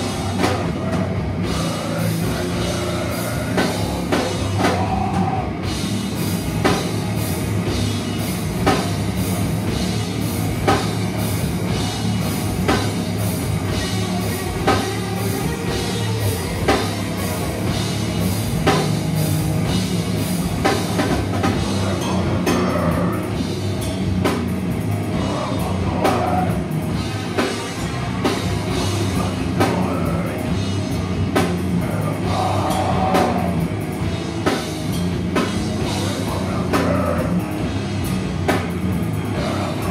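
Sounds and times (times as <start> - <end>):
heavy drum and cymbal accents: 0.0 - 39.9
heavy metal band playing: 0.0 - 39.9.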